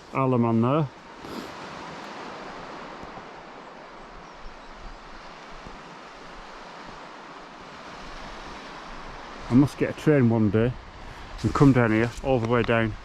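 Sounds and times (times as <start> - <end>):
light wind: 0.0 - 13.0
sea surf washing onto shore: 0.0 - 13.0.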